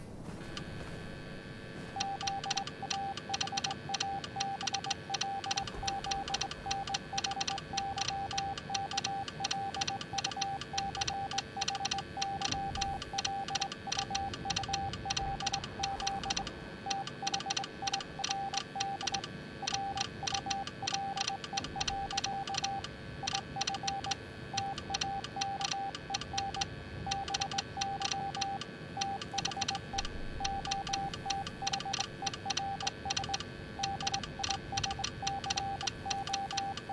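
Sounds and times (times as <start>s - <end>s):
fast even clicking: 2.0s - 36.9s
morse code beep tone: 2.0s - 36.9s.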